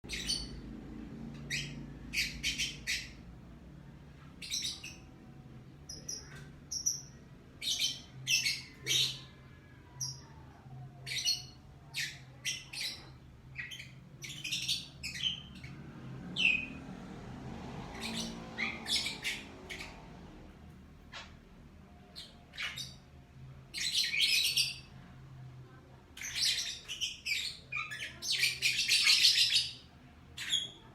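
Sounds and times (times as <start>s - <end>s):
lovebird chirping and squawking: 0.0s - 3.3s, 4.4s - 16.9s, 17.8s - 20.3s, 21.0s - 23.1s, 23.7s - 25.0s, 26.2s - 30.9s.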